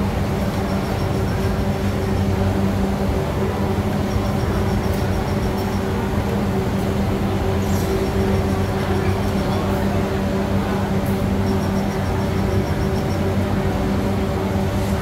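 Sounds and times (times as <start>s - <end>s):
busy market din: 0.0s - 15.0s
low machine hum: 0.0s - 15.0s.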